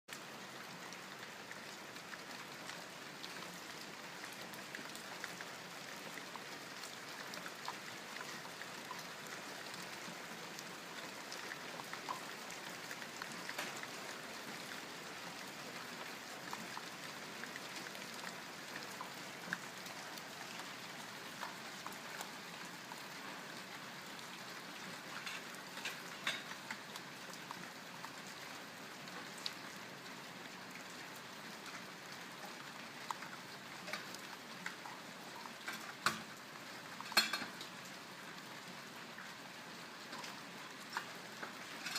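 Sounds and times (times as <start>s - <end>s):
raindrops ticking: 0.1s - 41.9s
steady rain falling: 0.1s - 41.9s.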